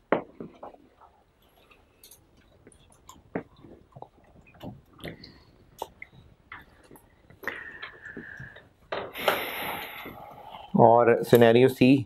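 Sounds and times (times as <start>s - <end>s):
faint room noise: 0.0s - 12.0s.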